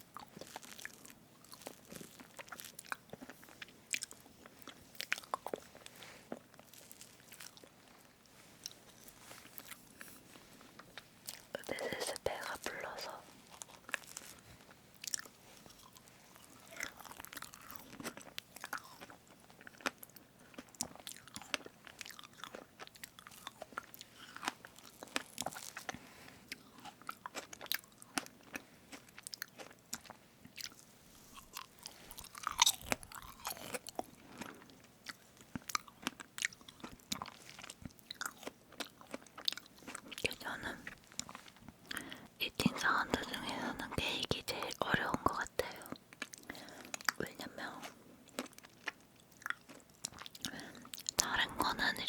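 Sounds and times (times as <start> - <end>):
chewing cake: 0.0 - 52.0.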